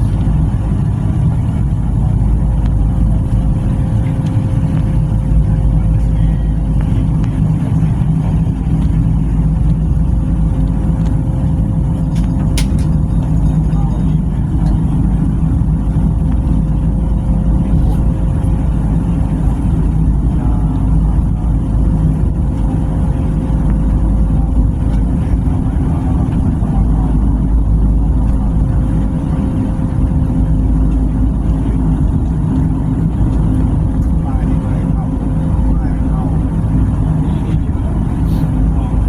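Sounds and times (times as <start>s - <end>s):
even hum: 0.0s - 39.0s
train rumbling: 0.0s - 39.0s.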